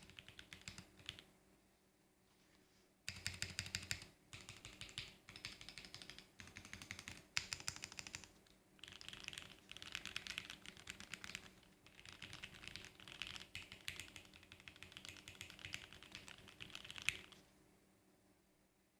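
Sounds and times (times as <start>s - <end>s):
mechanical keyboard typing: 0.0s - 1.2s, 3.1s - 17.4s.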